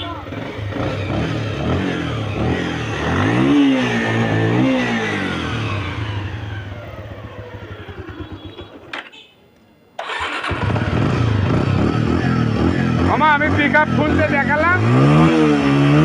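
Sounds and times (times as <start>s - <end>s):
motorcycle engine revving and idling: 0.0s - 9.0s, 10.0s - 16.0s.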